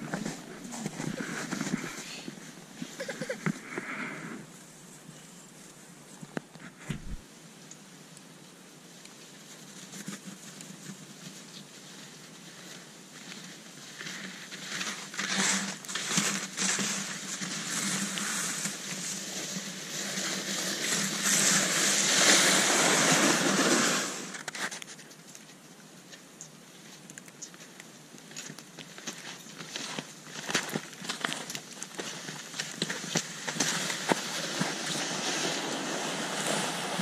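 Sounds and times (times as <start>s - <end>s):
skis sliding over snow: 0.0s - 7.2s, 9.1s - 37.0s.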